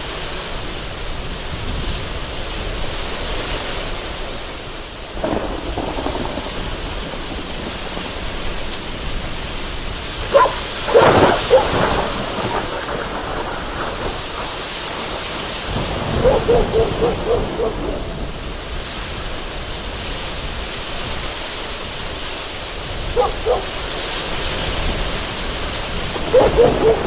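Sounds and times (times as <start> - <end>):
heavy rain hissing: 0.0 - 27.0
thunder clap and rumble: 5.1 - 27.0.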